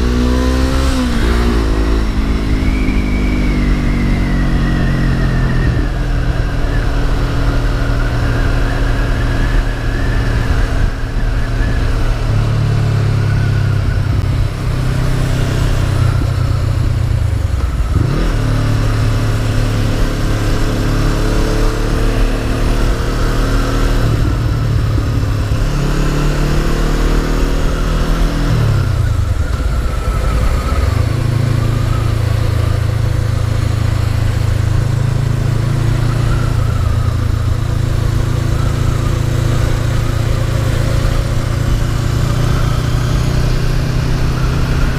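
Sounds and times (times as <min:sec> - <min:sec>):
motorcycle engine running: 0:00.0 - 0:44.9
wind noise: 0:00.0 - 0:44.9.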